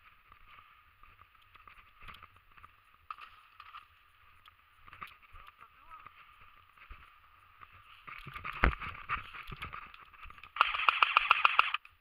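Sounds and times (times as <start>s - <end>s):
footsteps on dirt path: 0.0s - 11.6s.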